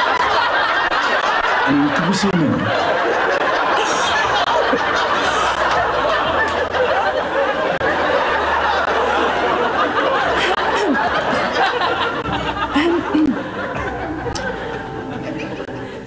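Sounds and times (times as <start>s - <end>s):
audience laughing: 0.0s - 16.0s.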